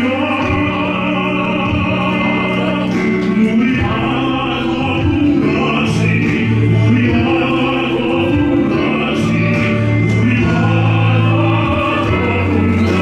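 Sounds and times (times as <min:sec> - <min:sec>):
worship music with singing: 0:00.0 - 0:13.0.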